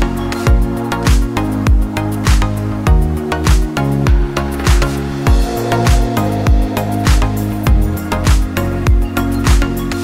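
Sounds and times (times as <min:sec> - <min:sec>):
music with kick-drum beat: 0:00.0 - 0:10.0.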